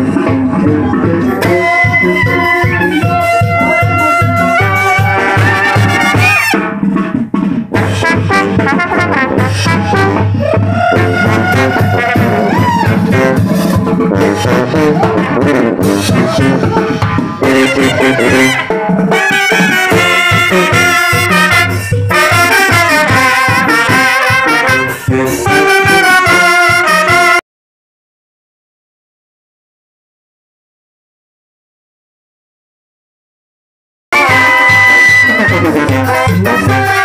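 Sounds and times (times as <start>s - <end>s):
brass band playing: 0.0s - 27.4s, 34.1s - 37.0s
sousaphone bass line: 0.0s - 27.4s, 34.1s - 37.0s.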